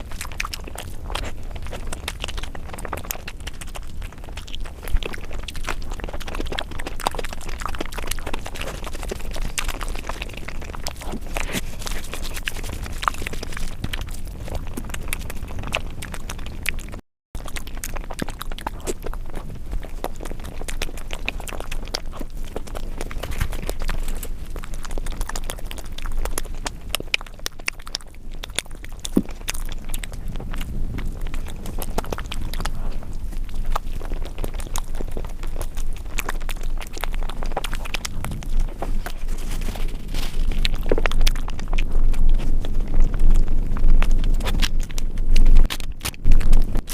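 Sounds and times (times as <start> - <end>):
close chewing and mouth sounds: 0.0 - 46.9.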